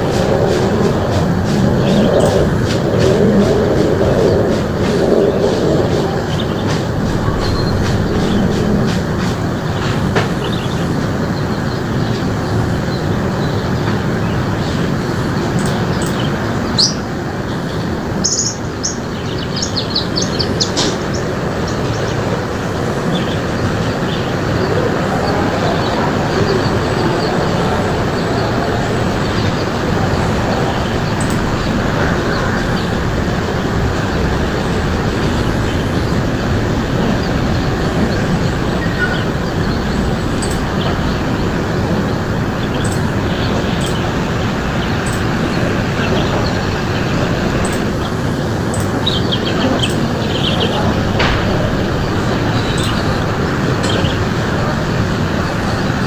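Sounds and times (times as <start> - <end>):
birds chirping: 0.0 - 56.0
steady loud rushing noise: 0.0 - 56.0.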